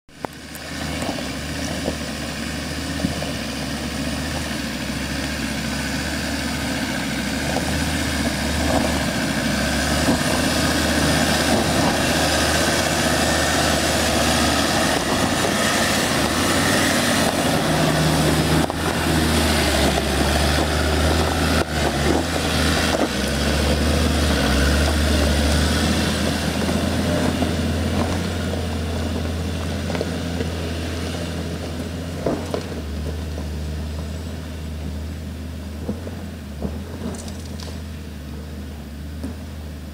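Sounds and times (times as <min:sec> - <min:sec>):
vehicle engine pulling at low revs: 0:00.1 - 0:39.9.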